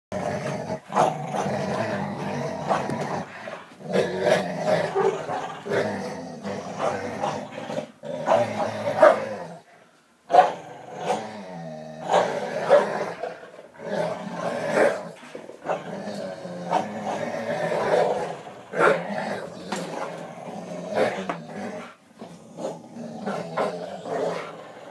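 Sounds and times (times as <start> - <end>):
dogs play-growling: 0.1 - 24.9.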